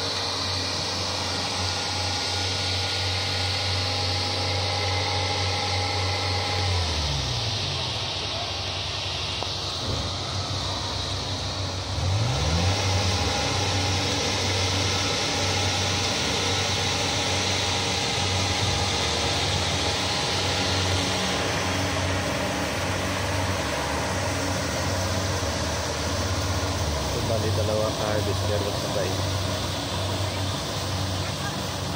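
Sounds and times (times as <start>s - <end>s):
combine harvester diesel engine: 0.0s - 31.9s
machinery hiss: 0.0s - 31.9s.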